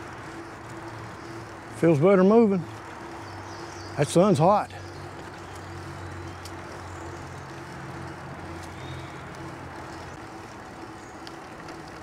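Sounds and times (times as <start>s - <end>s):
bike tyres rolling on trail: 0.0s - 12.0s.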